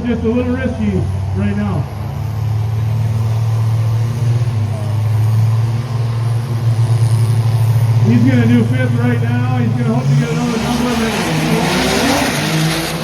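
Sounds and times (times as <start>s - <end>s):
diesel truck engine at high revs: 0.0s - 13.0s.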